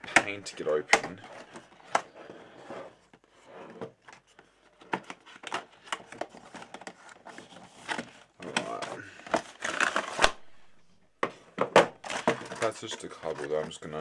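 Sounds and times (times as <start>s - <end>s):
plastic cover clicking and scraping: 0.0s - 10.5s, 11.2s - 14.0s.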